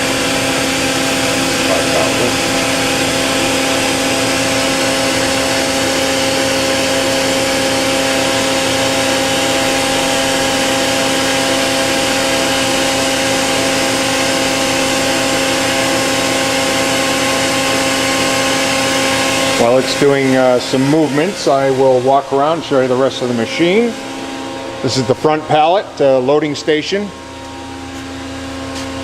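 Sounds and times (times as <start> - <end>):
machining center mechanical hum: 0.0 - 29.0
steady machine whine: 0.0 - 29.0.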